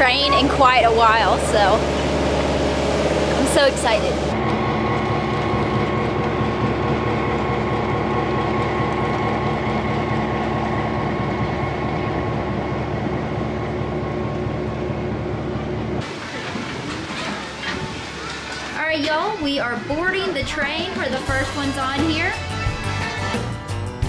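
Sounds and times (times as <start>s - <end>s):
locomotive idling rumble: 0.0s - 23.6s.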